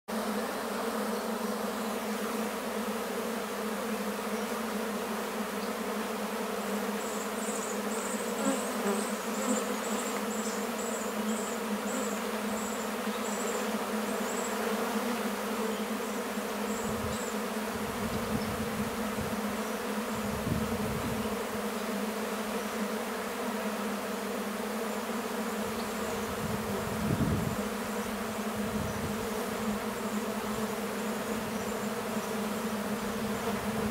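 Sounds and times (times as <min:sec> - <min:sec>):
honey bees buzzing: 0:00.1 - 0:33.9.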